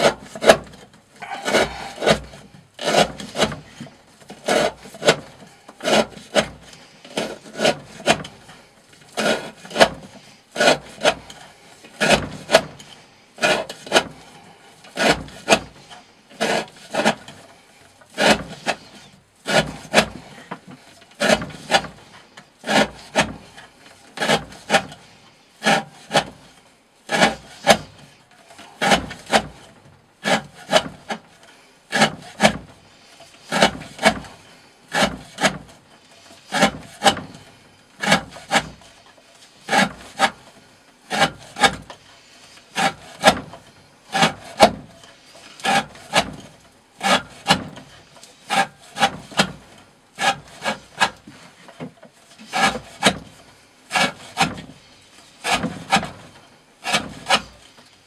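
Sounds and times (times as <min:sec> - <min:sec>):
knife cutting rope on wood: 0:00.0 - 0:58.0.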